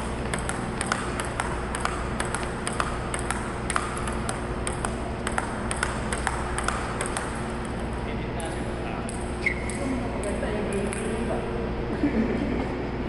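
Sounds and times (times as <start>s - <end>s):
table tennis ball ticking: 0.0s - 11.2s.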